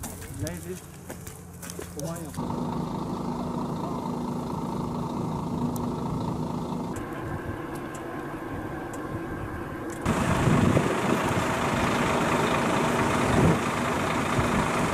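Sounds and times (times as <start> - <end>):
diesel trucks idling: 0.0 - 14.9
outdoor rush: 0.0 - 14.9.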